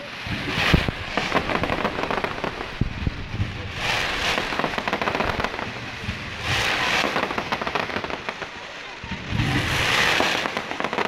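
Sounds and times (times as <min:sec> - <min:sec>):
fireworks crackling: 0:00.0 - 0:11.0
fireworks hiss: 0:00.0 - 0:11.0
low fireworks thuds: 0:00.0 - 0:11.0.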